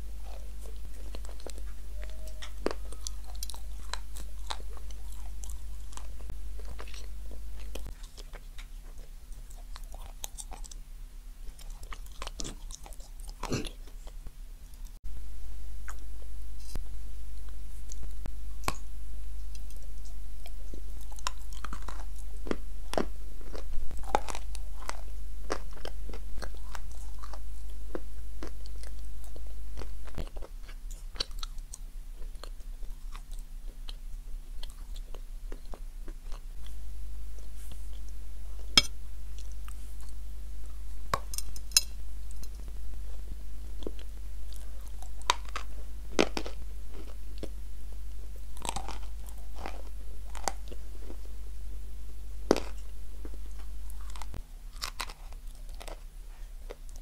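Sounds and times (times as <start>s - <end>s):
crunchy chewing: 0.0s - 15.0s, 15.8s - 51.5s, 52.4s - 57.0s
steady low hum: 0.0s - 57.0s.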